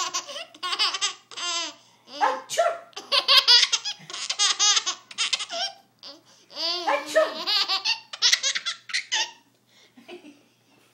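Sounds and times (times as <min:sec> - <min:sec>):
baby laughing: 0:00.0 - 0:09.4.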